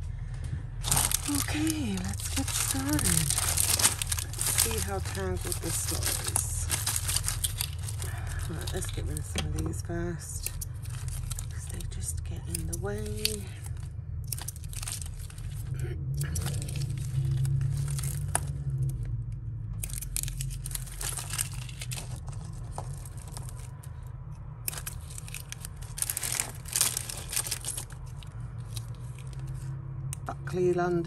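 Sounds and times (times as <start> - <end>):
plastic bag crinkling: 0.8 - 19.1, 19.8 - 29.7.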